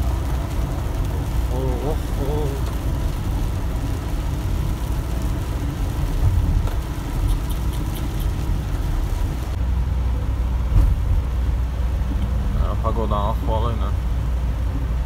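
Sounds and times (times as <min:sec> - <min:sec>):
truck engine rumble: 0:00.0 - 0:15.0
tyre noise on wet road: 0:00.0 - 0:15.0.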